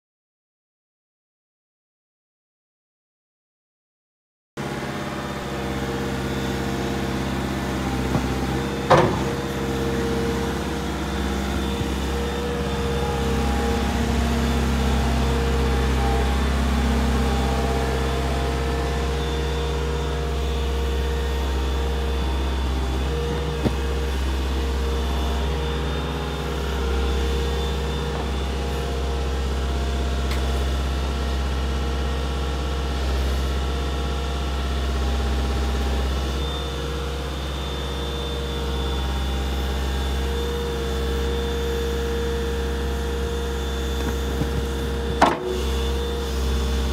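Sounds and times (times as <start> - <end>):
excavator diesel engine running: 4.6 - 46.9.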